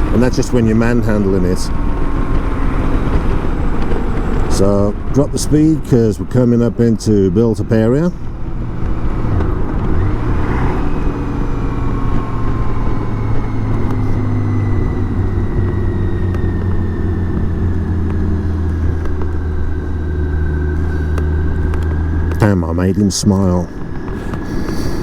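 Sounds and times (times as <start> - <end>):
falling whine: 0.0 - 25.0
motorcycle engine running: 0.0 - 25.0.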